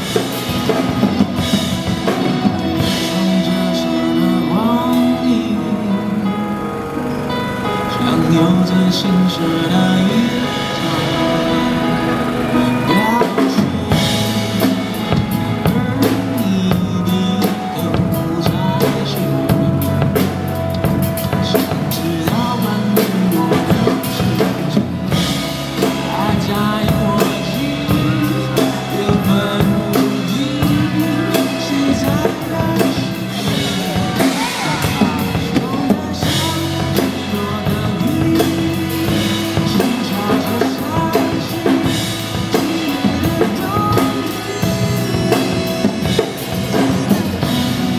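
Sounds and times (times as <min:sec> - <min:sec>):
drum kit playing: 0:00.0 - 0:47.9
pop song backing track: 0:00.0 - 0:47.9.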